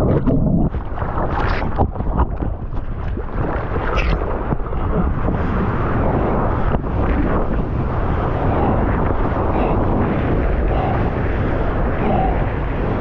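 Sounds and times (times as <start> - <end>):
sea water rushing and splashing: 0.0 - 13.0
wind buffeting microphone: 0.0 - 13.0.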